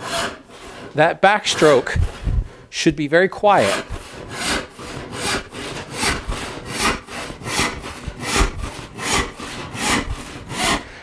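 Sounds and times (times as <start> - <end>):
handsaw rasping through wood: 0.0 - 2.7, 3.5 - 11.0.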